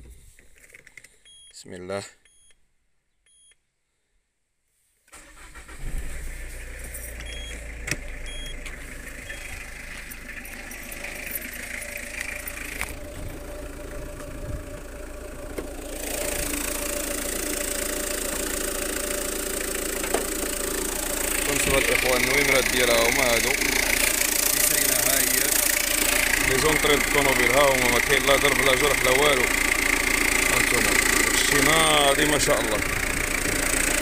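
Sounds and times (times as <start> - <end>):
engine cranking and starting: 5.1 - 34.0
engine idling: 5.2 - 34.0.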